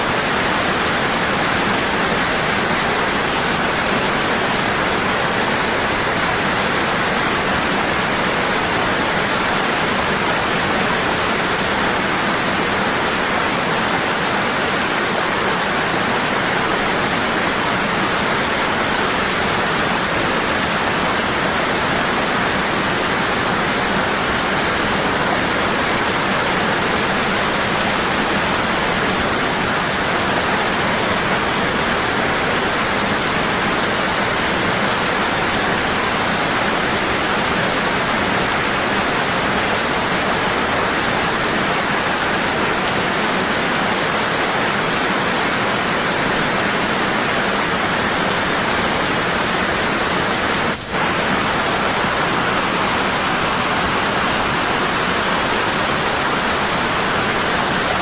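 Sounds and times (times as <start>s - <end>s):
waterfall pouring: 0.0s - 58.0s.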